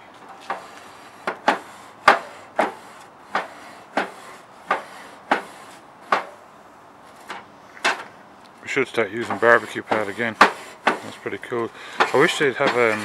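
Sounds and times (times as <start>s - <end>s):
grill brush scraping metal grate: 0.0s - 13.0s.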